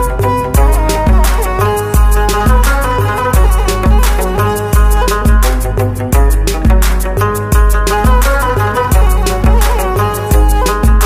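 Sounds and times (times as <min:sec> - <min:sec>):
crisp high percussion: 0:00.0 - 0:11.0
heavy bass beat: 0:00.0 - 0:11.0
sustained melody notes: 0:00.0 - 0:11.0.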